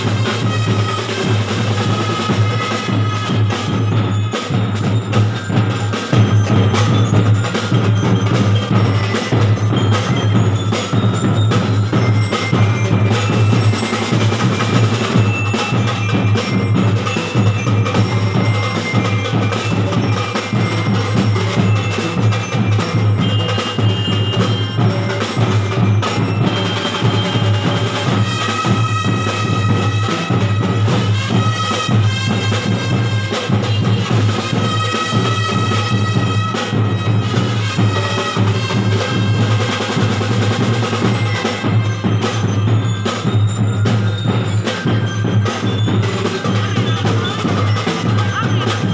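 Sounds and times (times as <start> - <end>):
mallet keyboards and percussion: 0.0 - 48.9.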